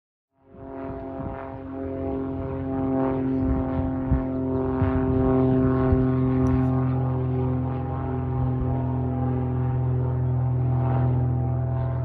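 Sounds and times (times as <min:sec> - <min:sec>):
propeller plane engine drone: 0:00.3 - 0:12.0.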